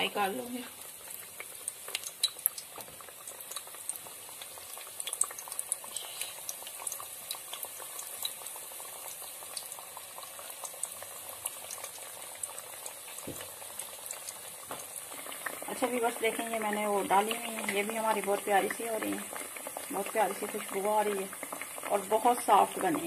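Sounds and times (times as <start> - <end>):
dough deep-frying in oil: 0.0 - 23.0.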